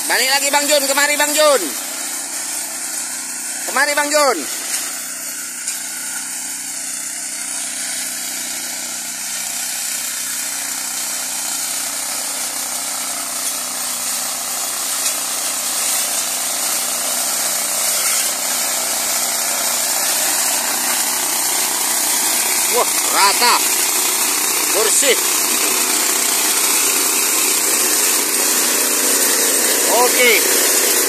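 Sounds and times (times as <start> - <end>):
cutting bar cutting undergrowth: 0.0 - 31.0
small petrol engine running: 0.0 - 31.0.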